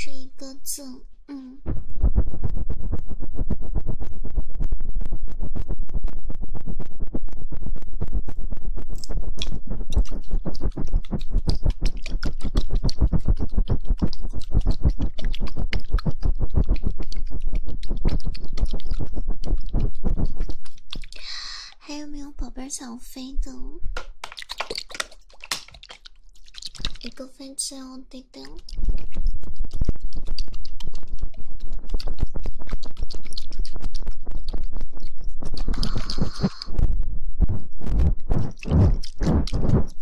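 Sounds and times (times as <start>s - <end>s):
fingers scratching on microphone: 1.7s - 21.2s, 24.2s - 27.3s, 28.4s - 40.0s.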